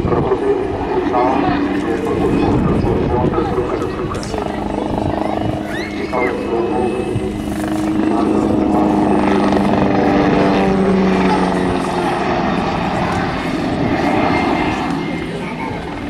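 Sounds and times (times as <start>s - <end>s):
helicopter rotor beating drone: 0.0s - 16.0s
steady humming tones: 0.0s - 16.0s.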